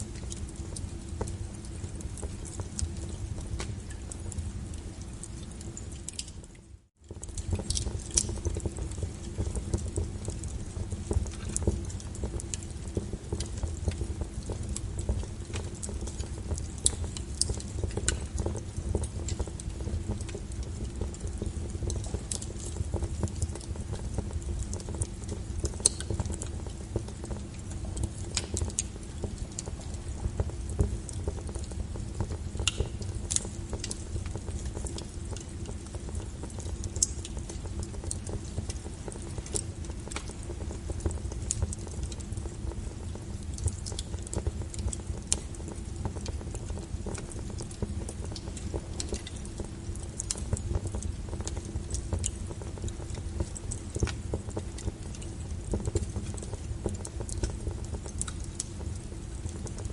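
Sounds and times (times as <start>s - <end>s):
flames rumbling: 0.0s - 59.9s
wood fire crackling: 0.0s - 59.9s.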